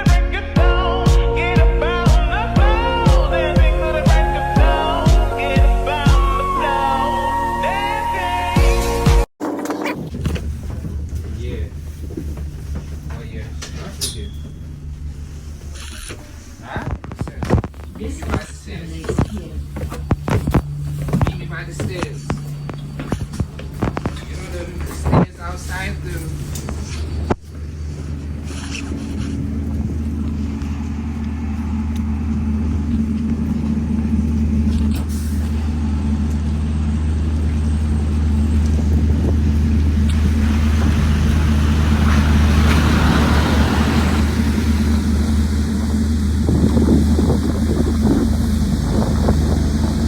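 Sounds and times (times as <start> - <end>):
bus diesel engine droning: 0.0 - 9.3, 10.0 - 50.0.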